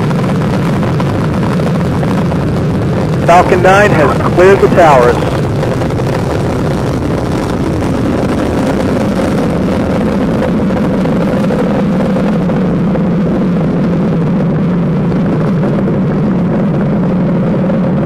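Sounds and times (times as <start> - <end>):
rocket engines firing: 0.0 - 18.0.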